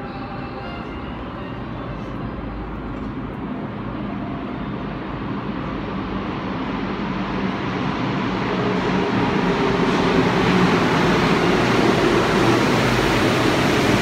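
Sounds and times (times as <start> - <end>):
metro train rumble in tunnel: 0.0 - 14.0.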